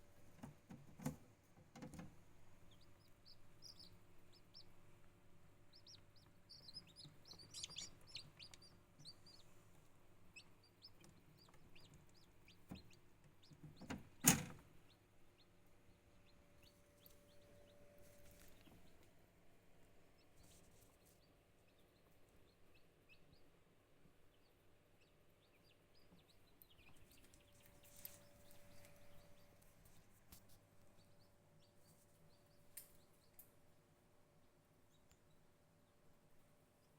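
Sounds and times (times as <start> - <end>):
chicks peeping: 0.3 - 19.2, 19.8 - 33.4.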